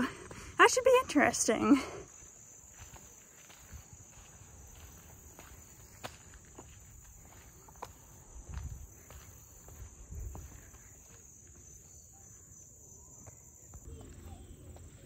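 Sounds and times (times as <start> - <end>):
insect chorus drone: 1.5 - 15.0.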